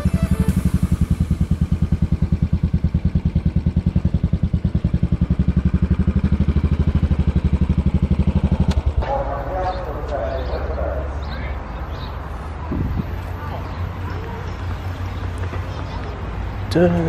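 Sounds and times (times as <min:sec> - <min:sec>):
motorcycle engine running low revs: 0:00.0 - 0:17.0.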